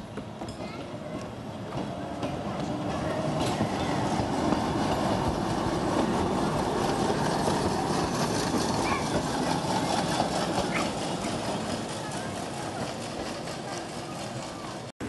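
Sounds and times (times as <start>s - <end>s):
streetcar wheels rumbling on rail: 0.0s - 14.9s.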